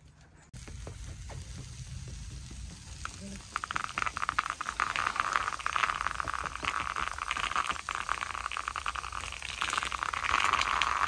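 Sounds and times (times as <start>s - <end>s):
wood fire crackling and popping: 0.1s - 11.0s.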